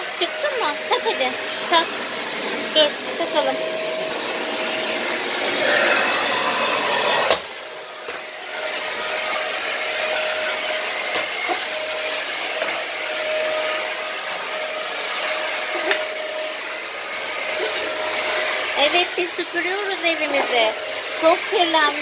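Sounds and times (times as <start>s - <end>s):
vacuum cleaners running: 0.0s - 22.0s.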